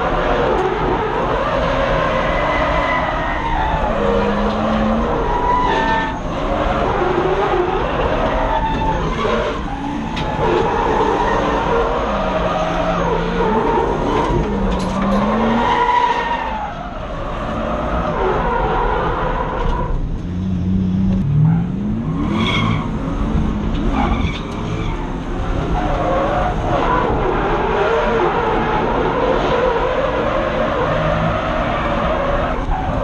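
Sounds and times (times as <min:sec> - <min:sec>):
tyres skidding: 0:00.0 - 0:33.0.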